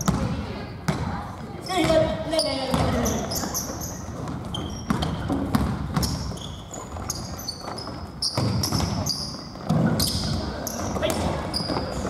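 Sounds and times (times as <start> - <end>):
basketball bouncing on wooden floor: 0.0 - 1.2, 1.8 - 12.0
sneakers squeaking on floor: 0.0 - 12.0.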